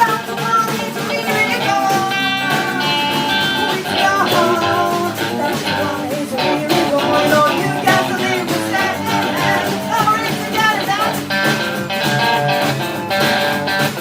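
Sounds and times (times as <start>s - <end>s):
electric guitar: 0.0s - 14.0s
live blues-rock band: 0.0s - 14.0s
percussive hits: 0.7s - 14.0s.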